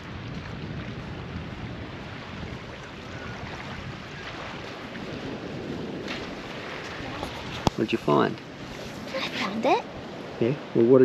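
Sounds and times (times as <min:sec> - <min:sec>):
waves and surf: 0:00.0 - 0:11.0
wind: 0:00.0 - 0:11.0.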